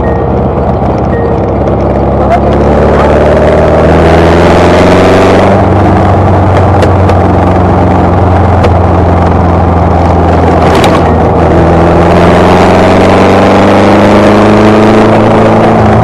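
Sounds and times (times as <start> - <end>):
car engine cruising: 0.0 - 16.0.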